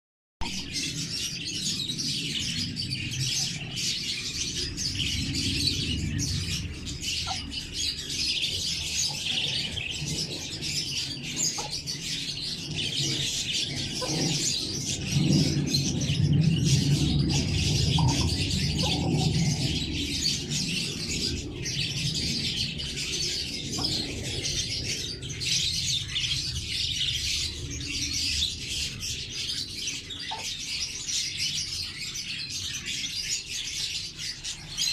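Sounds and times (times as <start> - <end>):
low rumble: 0.4 - 30.3
lovebirds chirping and chattering: 0.4 - 34.9.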